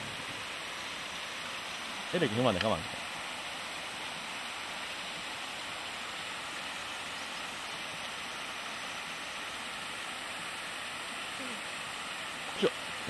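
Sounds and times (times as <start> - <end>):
rushing water hiss: 0.0 - 13.0.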